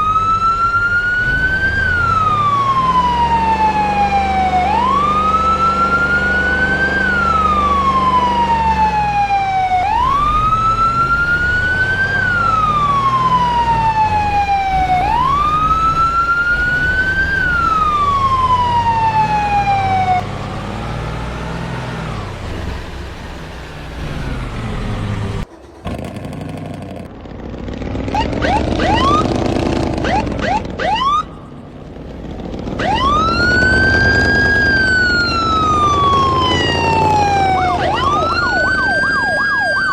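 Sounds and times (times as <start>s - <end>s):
siren wailing: 0.0s - 22.4s, 23.8s - 39.9s
jumbled rising siren tones: 0.0s - 39.9s.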